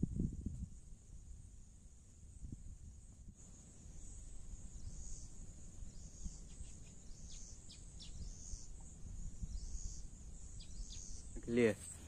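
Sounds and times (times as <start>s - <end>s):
wind rumble on microphone: 0.0s - 11.5s
high insect drone: 0.2s - 12.0s.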